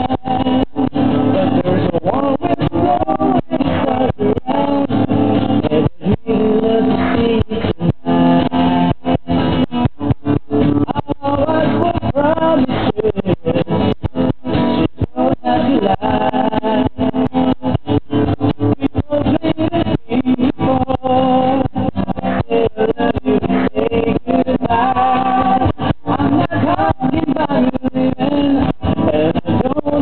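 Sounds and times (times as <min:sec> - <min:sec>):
guitar: 0:00.0 - 0:30.0
person singing: 0:00.0 - 0:30.0.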